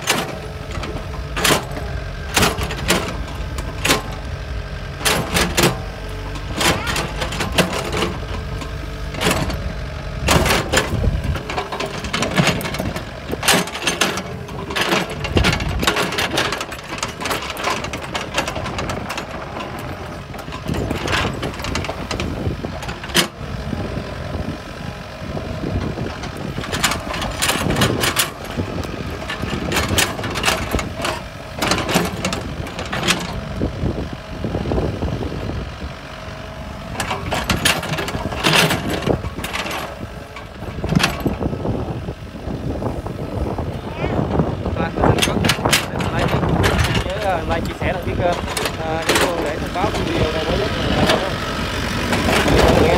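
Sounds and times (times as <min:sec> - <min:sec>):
excavator diesel engine working: 0:00.0 - 0:52.9.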